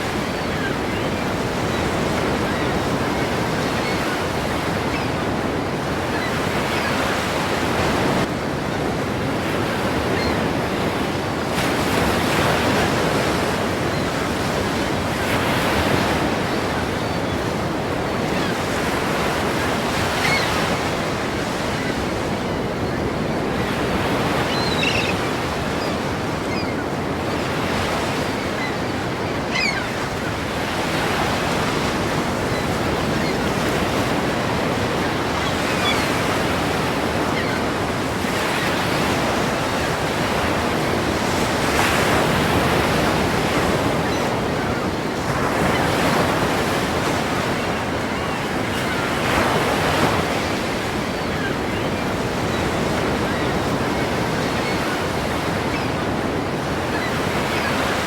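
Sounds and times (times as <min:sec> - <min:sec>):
ocean waves crashing: 0:00.0 - 0:58.0.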